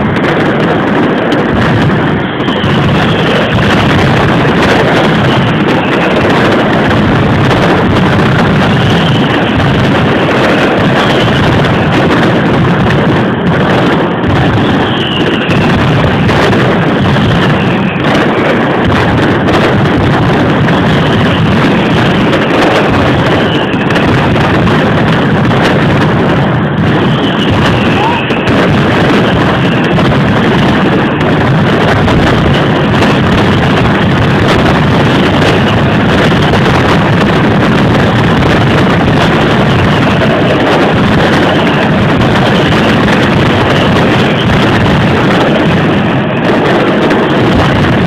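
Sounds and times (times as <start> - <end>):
firecrackers banging in a barrage: 0.0 - 48.0.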